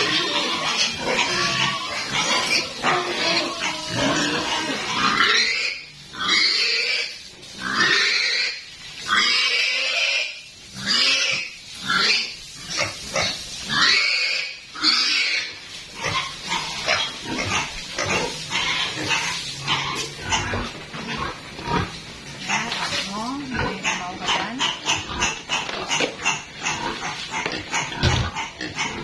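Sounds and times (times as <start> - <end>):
pigs squealing and grunting: 0.0 - 29.0.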